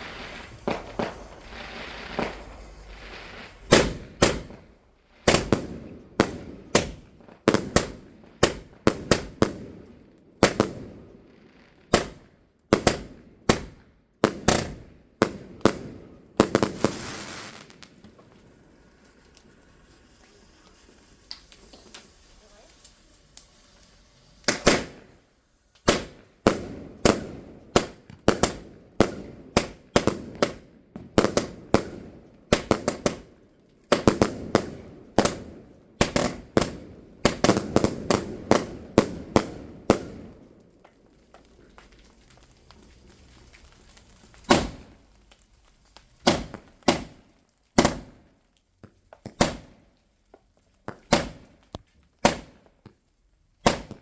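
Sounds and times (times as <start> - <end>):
fireworks bangs and cracks: 0.0 - 54.0.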